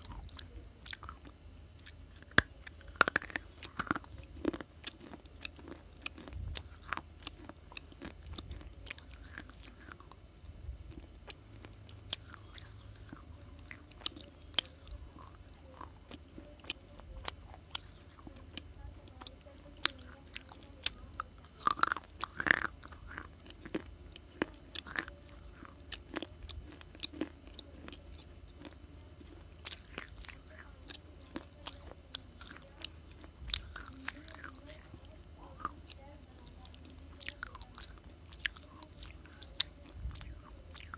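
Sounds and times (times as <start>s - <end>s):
crunching and chewing baked clay: 0.0s - 40.9s.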